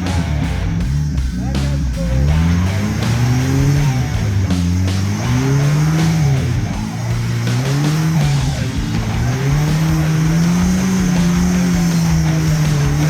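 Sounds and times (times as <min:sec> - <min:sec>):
engine revving up and down: 0:00.0 - 0:13.0.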